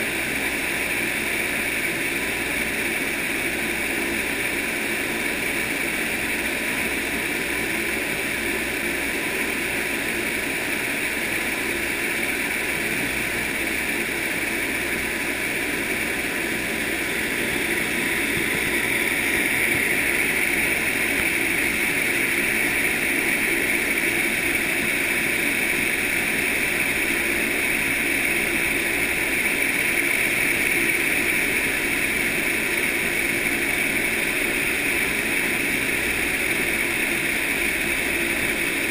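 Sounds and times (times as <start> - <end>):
wind tunnel fan roaring: 0.0 - 38.9.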